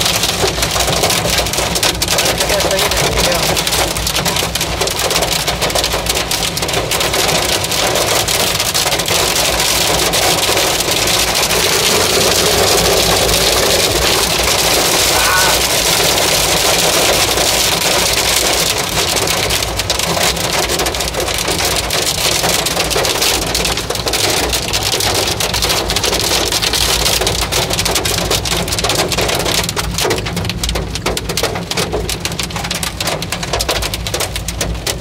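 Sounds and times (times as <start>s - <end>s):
rain on car windshield: 0.0s - 35.0s.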